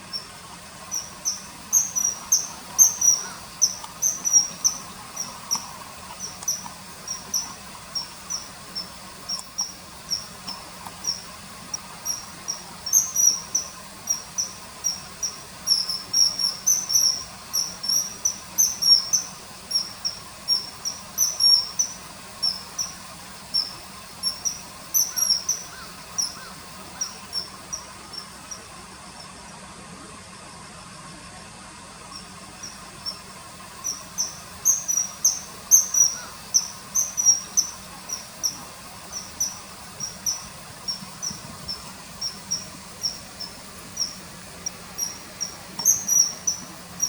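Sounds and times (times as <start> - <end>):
kingfisher shrill calls: 0.9 - 27.9, 32.6 - 47.0.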